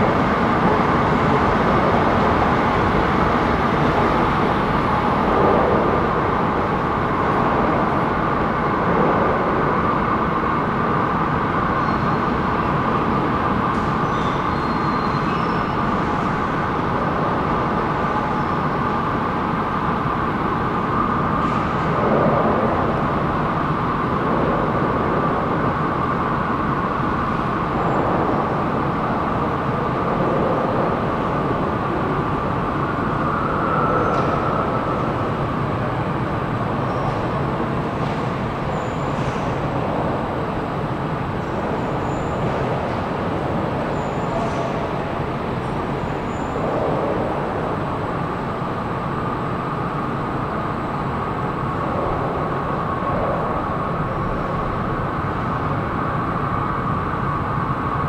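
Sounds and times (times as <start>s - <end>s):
metro station rumble: 0.0s - 58.0s.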